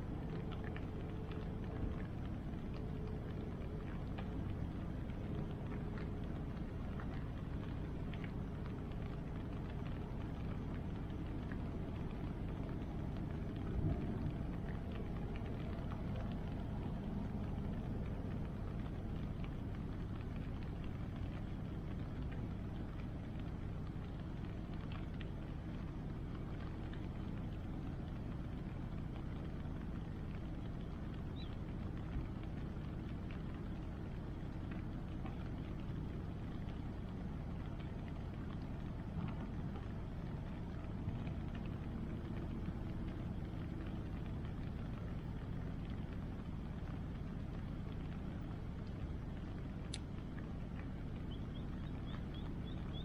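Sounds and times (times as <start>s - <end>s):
bonfire crackling: 0.0s - 53.0s
rain: 0.0s - 53.0s.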